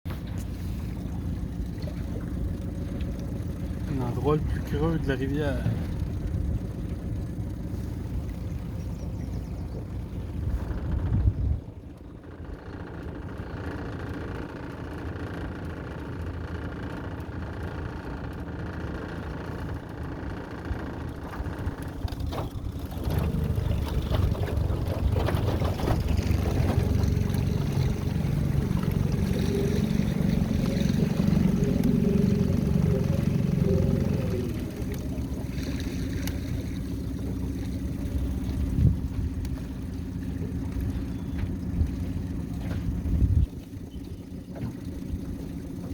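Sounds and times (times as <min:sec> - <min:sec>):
boat motor running: 0:00.0 - 0:45.9.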